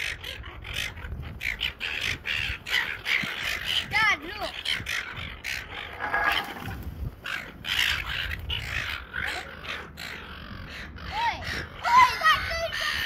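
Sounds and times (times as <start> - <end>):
gulls squawking: 0.0 - 13.0
wind rumble on microphone: 0.0 - 13.0.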